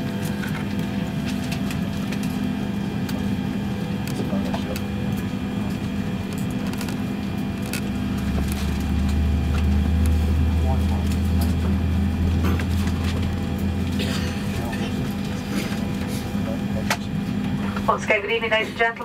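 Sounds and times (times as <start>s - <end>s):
deep low drone: 0.0s - 18.0s
aircraft cabin hum: 0.0s - 19.0s.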